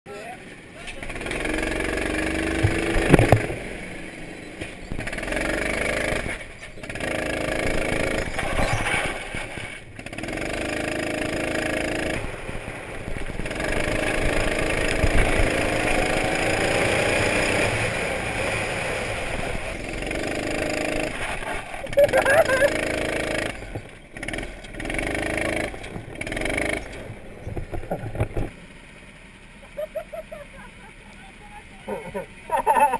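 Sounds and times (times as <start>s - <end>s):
go-kart engine revving: 0.1s - 32.9s.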